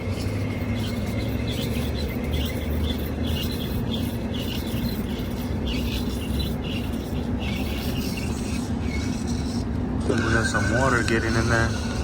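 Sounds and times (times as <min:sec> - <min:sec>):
swamp cooler humming: 0:00.0 - 0:12.0.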